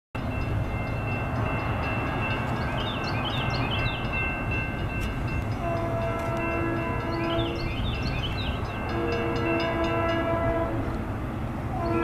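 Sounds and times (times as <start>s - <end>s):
distant diesel locomotive rumble: 0.2s - 12.0s.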